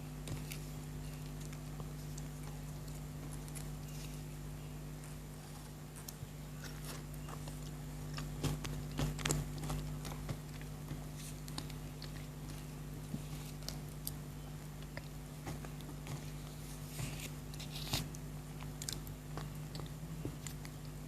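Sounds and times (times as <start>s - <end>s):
chocolate being chewed: 0.0s - 21.0s
steady low hum: 0.0s - 21.0s.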